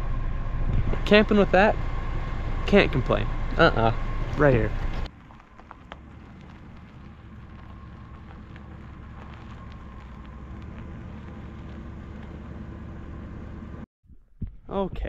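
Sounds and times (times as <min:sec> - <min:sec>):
van engine running: 0:00.0 - 0:13.9
tyres crackling on dirt: 0:00.6 - 0:13.8.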